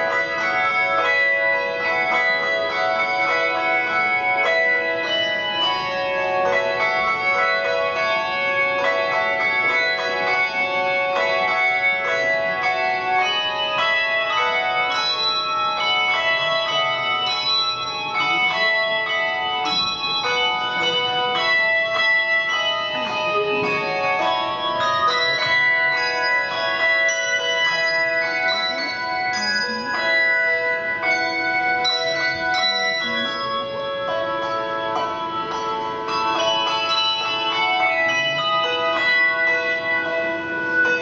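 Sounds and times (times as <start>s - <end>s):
handbells ringing a tune: 0.0s - 41.0s.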